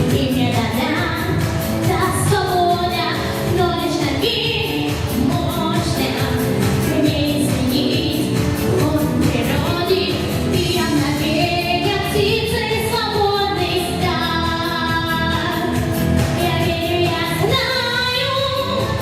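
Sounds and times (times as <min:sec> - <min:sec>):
instrumental accompaniment with beat: 0:00.0 - 0:19.0
woman singing: 0:00.0 - 0:19.0.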